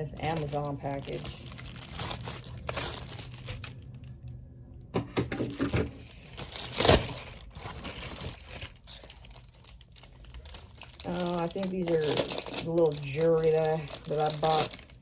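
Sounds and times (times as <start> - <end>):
packaging crinkling and tearing: 0.0 - 4.4, 5.5 - 15.0.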